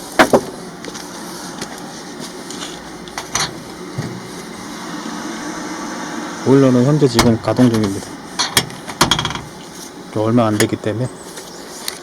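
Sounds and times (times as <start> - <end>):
boiler mechanical hum: 0.0 - 12.0.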